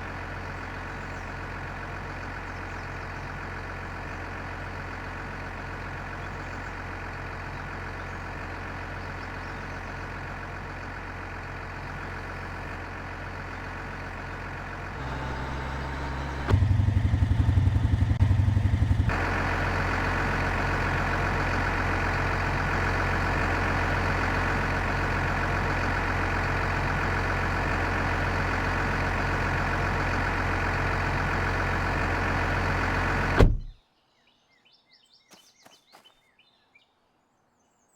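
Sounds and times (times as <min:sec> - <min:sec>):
engine running: 0:00.0 - 0:33.8.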